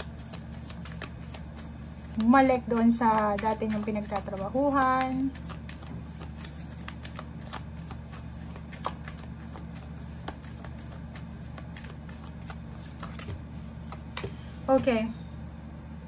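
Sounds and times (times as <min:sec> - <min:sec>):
cards being shuffled: 0:00.0 - 0:14.4
steady low hum: 0:00.0 - 0:16.0.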